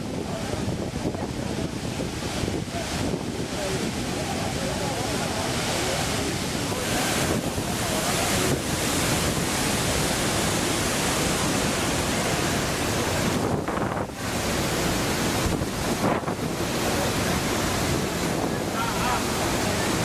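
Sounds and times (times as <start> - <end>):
waterfall roaring: 0.0 - 20.0
wind buffeting microphone: 0.0 - 20.0.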